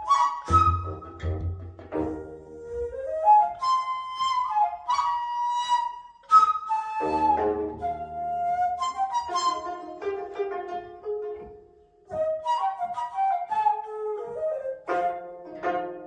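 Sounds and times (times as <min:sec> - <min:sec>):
plucked zither strings: 0:00.0 - 0:04.6, 0:06.9 - 0:16.0
bamboo flute melody: 0:00.0 - 0:16.0.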